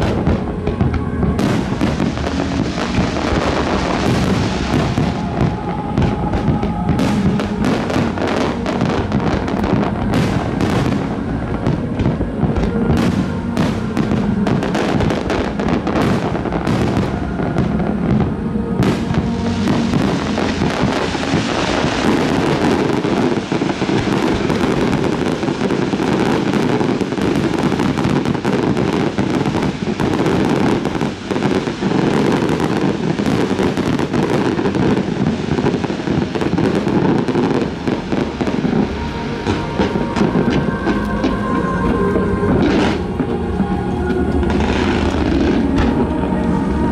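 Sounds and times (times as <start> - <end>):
fireworks bangs and crackles: 0.0 - 46.9
music: 0.0 - 46.9.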